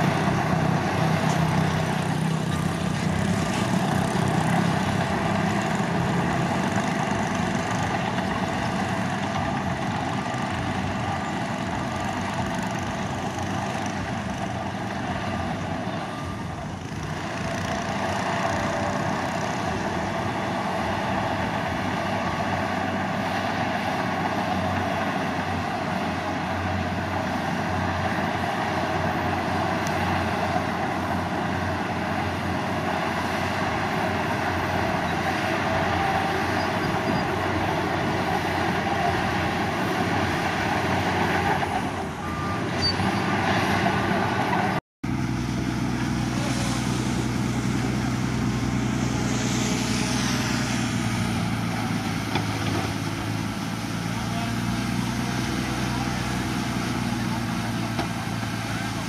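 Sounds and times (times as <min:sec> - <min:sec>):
heavy diesel machinery running: 0:00.0 - 0:59.0
steady engine hum: 0:00.0 - 0:59.0.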